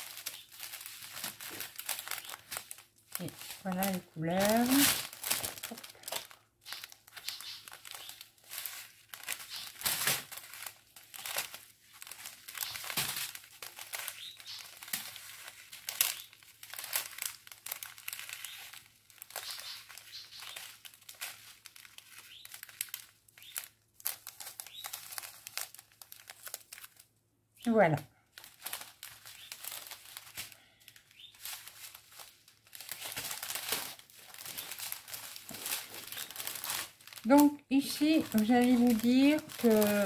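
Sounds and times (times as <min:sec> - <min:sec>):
plastic bags crinkling: 0:00.0 - 0:27.1, 0:28.1 - 0:40.0.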